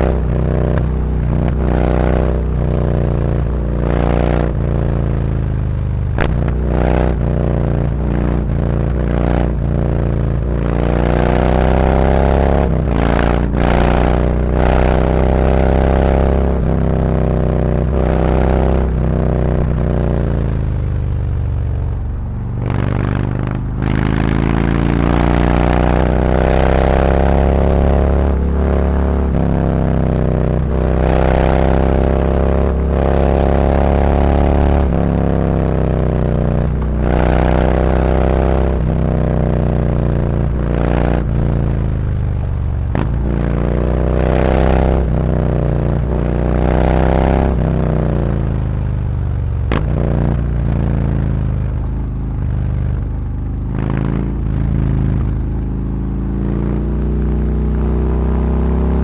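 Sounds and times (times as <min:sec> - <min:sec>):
motorcycle accelerating through gears: 0:00.0 - 0:59.0.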